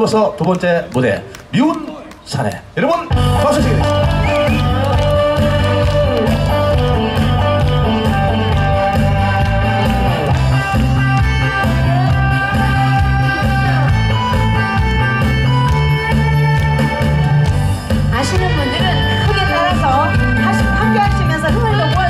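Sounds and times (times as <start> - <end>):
backing track music over pa: 3.1 - 22.0.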